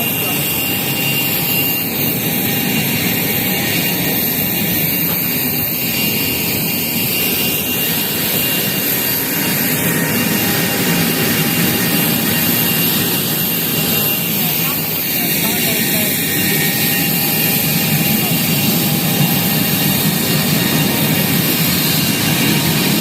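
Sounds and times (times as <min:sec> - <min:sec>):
jet engine high whine: 0:00.0 - 0:23.0
jet engine rushing: 0:00.0 - 0:23.0.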